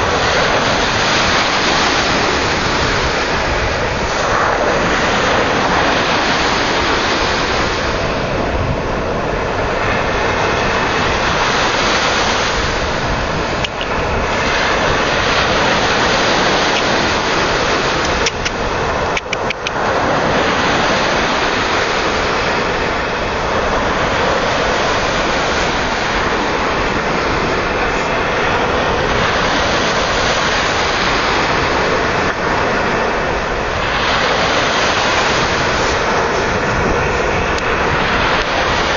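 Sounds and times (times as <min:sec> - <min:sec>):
surf rushing: 0:00.0 - 0:38.9
wind buffeting microphone: 0:00.0 - 0:38.9.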